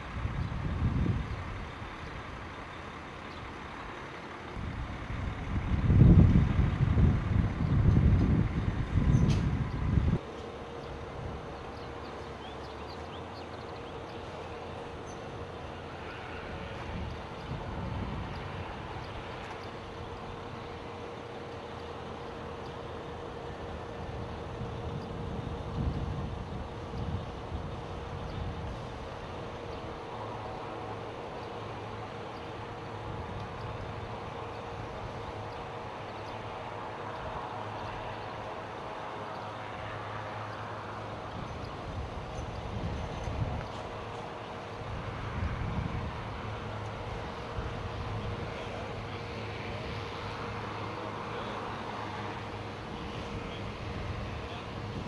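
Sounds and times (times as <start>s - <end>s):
wind buffeting microphone: 0.0s - 2.7s, 4.5s - 55.0s
truck engines idling: 0.0s - 55.0s.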